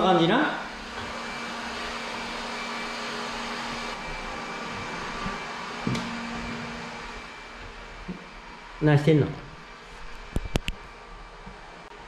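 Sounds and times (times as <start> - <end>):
robot vacuum whirring: 0.6 - 12.0.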